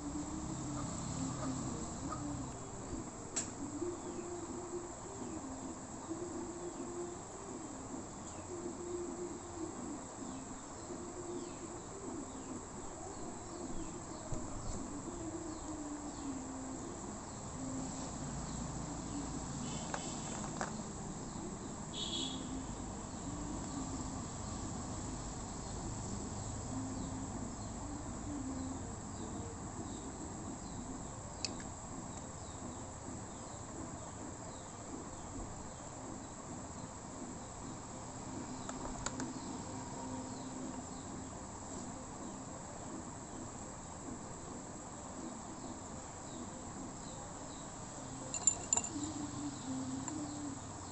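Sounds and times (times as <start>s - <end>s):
crickets chirring: 0.0s - 50.9s.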